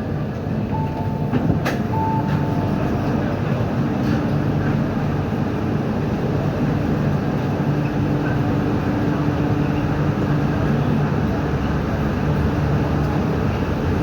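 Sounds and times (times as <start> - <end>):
metro train car hum and rumble: 0.0 - 14.0.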